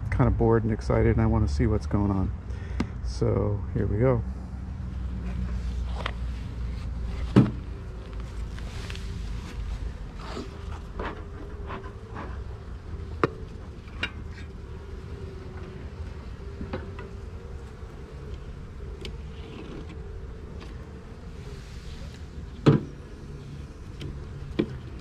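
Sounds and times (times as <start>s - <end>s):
bees buzzing: 4.4s - 25.0s.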